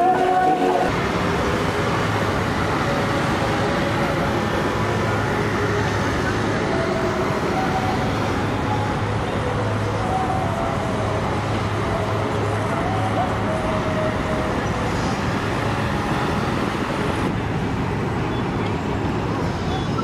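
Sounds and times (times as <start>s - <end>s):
traffic passing: 0.0s - 20.0s.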